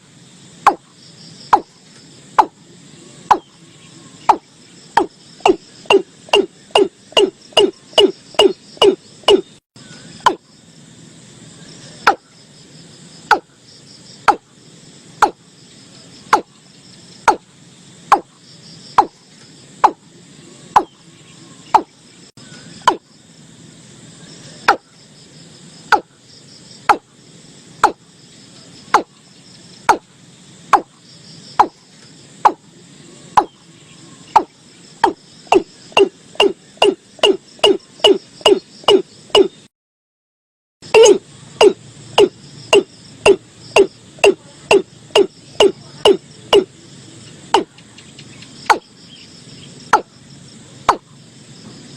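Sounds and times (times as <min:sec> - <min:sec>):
insects trilling: 0:00.0 - 0:39.7, 0:40.8 - 0:51.9.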